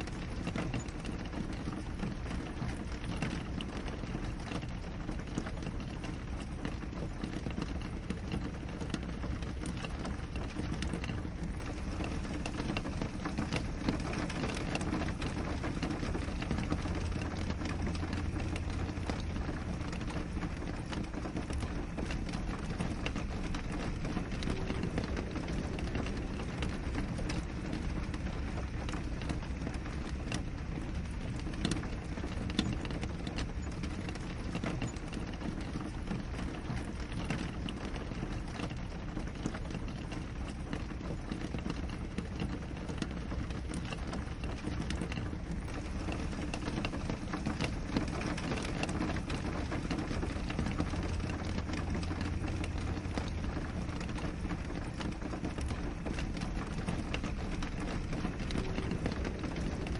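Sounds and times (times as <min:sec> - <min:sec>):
rain on a window pane: 0:00.0 - 0:59.9.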